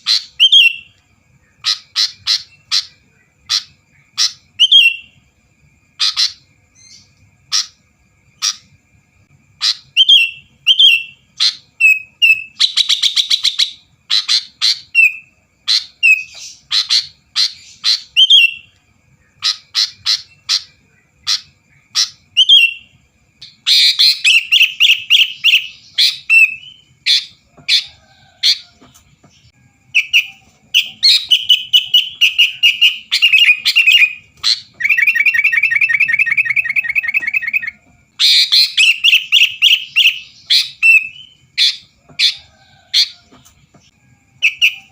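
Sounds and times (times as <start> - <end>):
bird chirping and whistling: 0.0 - 5.2, 6.0 - 7.8, 9.6 - 27.9, 29.9 - 42.4, 44.4 - 44.9.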